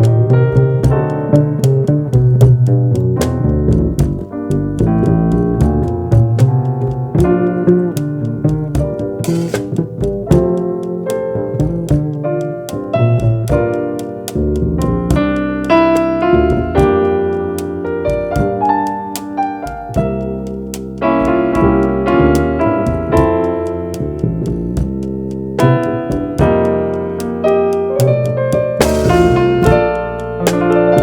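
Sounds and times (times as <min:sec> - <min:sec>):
jazz piano trio: 0:00.0 - 0:31.0.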